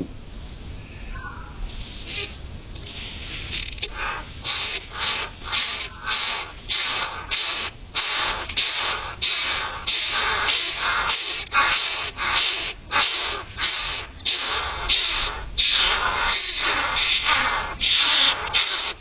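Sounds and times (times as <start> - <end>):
bird chick harsh rhythmic hiss: 0.2 - 19.0.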